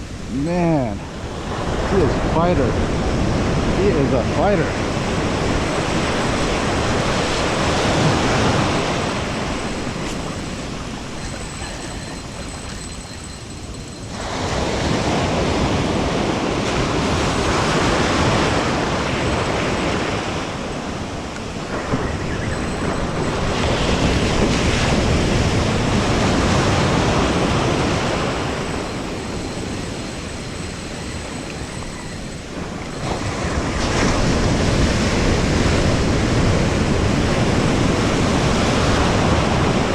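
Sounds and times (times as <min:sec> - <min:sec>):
ocean surf washing: 0:00.0 - 0:39.9
waves crashing: 0:00.0 - 0:39.9.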